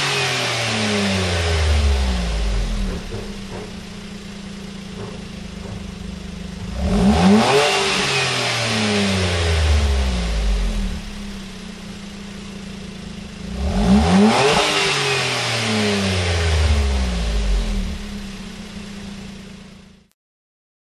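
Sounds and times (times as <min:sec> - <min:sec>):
car engine idling and revving: 0:00.0 - 0:20.1.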